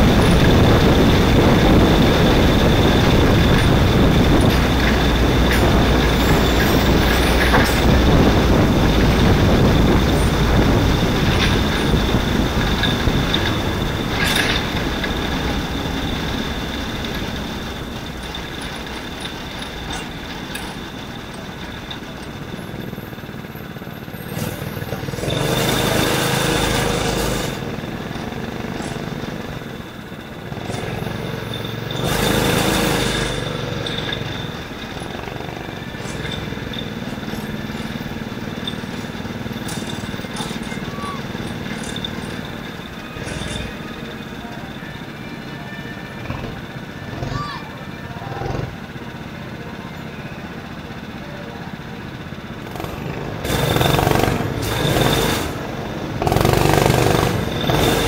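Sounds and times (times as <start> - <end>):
high whine: 0.0 - 58.0
racing kart engine: 0.0 - 58.0.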